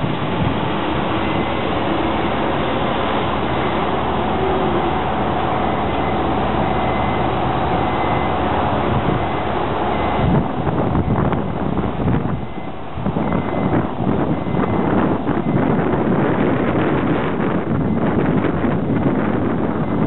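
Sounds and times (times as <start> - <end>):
diesel truck engine passing: 0.0 - 20.0.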